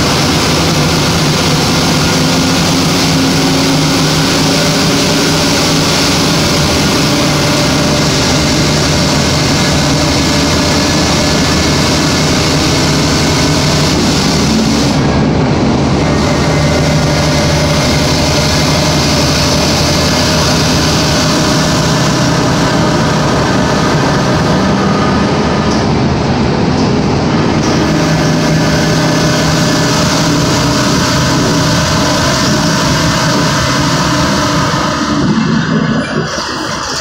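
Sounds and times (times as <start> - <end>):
bus engine droning with hiss: 0.0 - 37.0.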